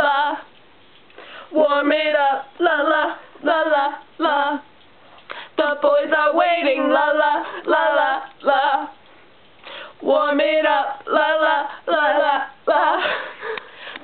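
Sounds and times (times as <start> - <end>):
women singing unaccompanied: 0.0 - 0.6, 1.4 - 9.1, 9.9 - 13.8.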